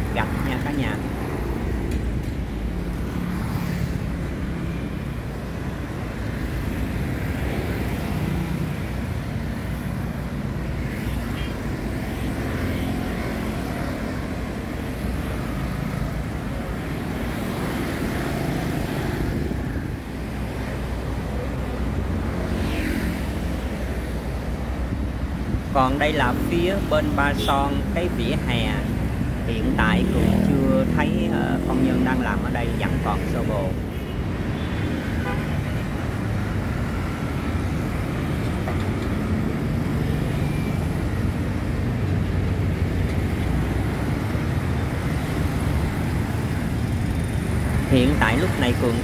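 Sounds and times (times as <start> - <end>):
cars passing: 0.0 - 49.0
motorbikes passing: 0.0 - 49.0.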